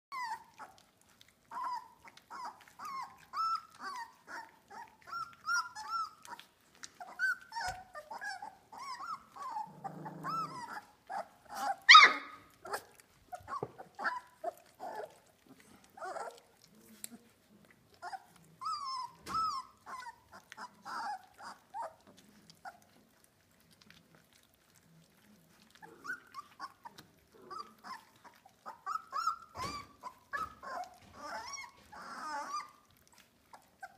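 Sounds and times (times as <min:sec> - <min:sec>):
puppy yelping: 0:00.1 - 0:17.3, 0:17.9 - 0:23.3, 0:25.1 - 0:33.9
puppies whining and squeaking: 0:00.1 - 0:33.9
puppy growling: 0:00.1 - 0:33.9.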